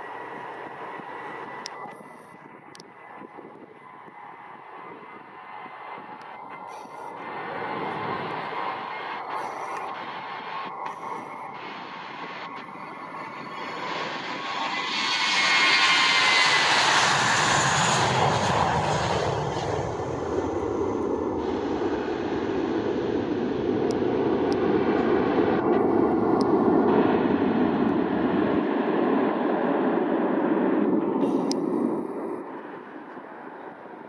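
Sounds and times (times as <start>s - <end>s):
jet engine deep roar: 0.0s - 34.0s
jet engine whine: 0.0s - 34.0s.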